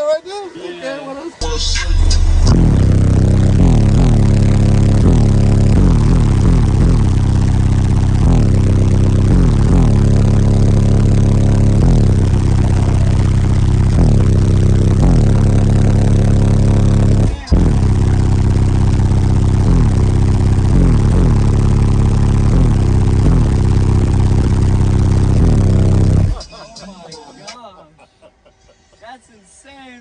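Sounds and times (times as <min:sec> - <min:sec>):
loud bass-heavy music: 0:01.4 - 0:27.8.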